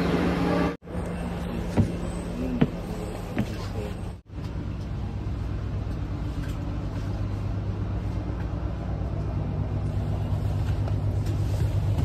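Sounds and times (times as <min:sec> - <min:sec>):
bus engine hum: 0:00.0 - 0:12.0.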